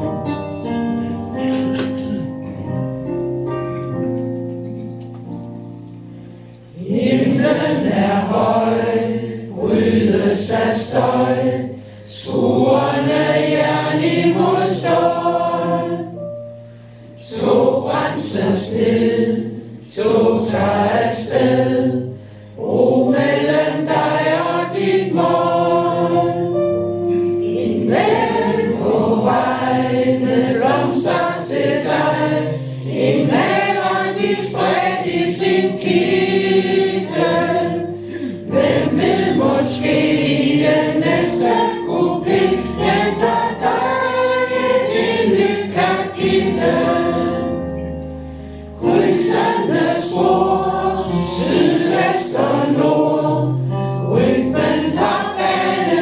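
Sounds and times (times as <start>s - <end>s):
group singing together: 6.7s - 16.4s, 17.0s - 56.0s.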